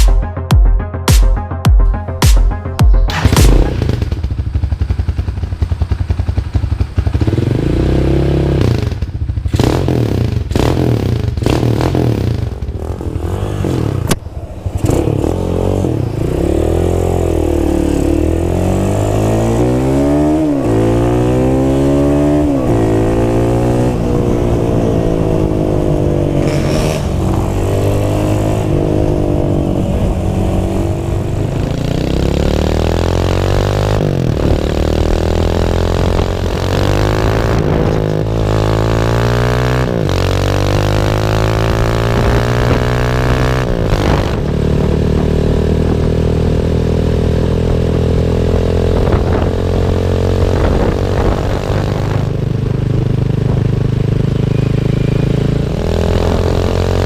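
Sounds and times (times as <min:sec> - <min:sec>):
motorcycle engine revving: 0:02.6 - 0:57.0.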